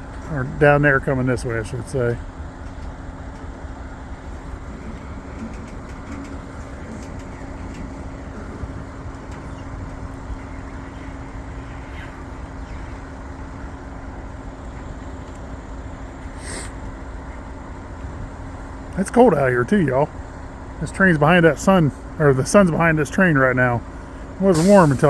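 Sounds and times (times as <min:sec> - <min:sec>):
freight train rumbling on rails: 0:00.0 - 0:25.0
steady hum: 0:00.0 - 0:25.0.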